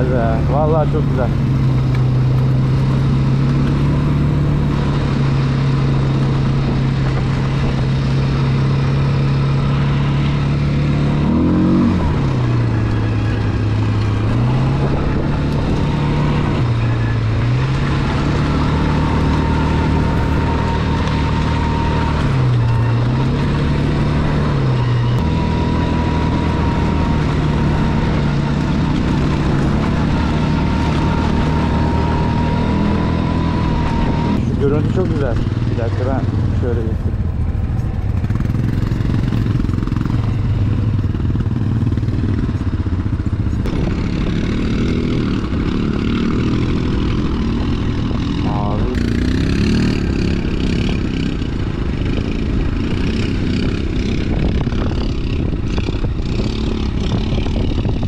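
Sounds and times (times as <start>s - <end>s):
small atv engine running: 0.0s - 58.0s.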